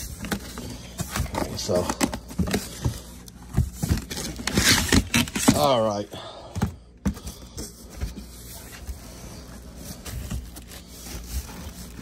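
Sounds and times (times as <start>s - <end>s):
cardboard and plastic bag rustling: 0.0s - 12.0s.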